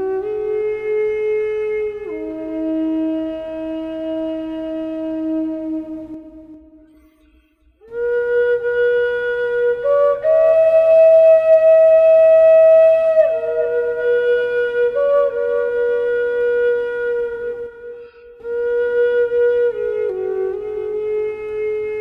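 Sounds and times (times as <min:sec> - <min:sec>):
flute playing slow phrase: 0:00.0 - 0:22.0.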